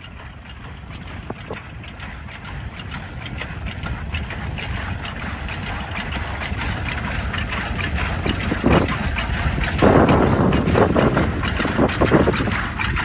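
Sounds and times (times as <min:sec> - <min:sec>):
tractor engine running: 0:00.0 - 0:13.0
water splashing and sloshing: 0:00.0 - 0:13.0
heavy splash: 0:00.2 - 0:13.0.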